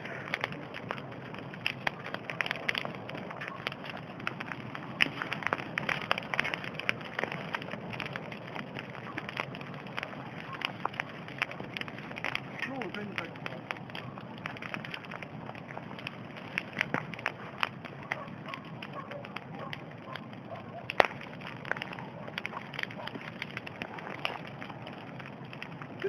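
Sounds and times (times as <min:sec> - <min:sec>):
bonfire crackling: 0:00.0 - 0:26.0.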